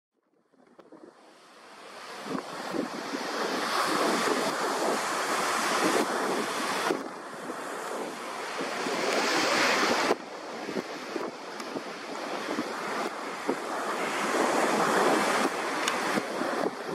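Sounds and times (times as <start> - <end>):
jet engines at takeoff thrust: 1.5 - 16.9.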